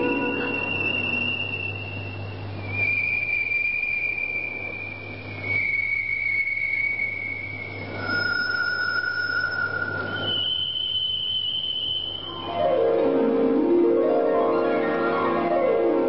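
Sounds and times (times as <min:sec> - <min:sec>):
long pure whistling tones: 0:00.0 - 0:14.4
low steady hum: 0:00.0 - 0:16.0.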